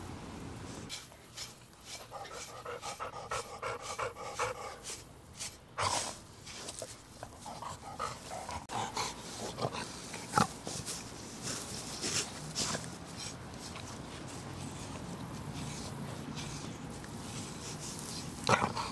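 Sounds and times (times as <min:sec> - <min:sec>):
brush rasping through fur: 0:00.9 - 0:18.9
dog panting: 0:01.0 - 0:18.9.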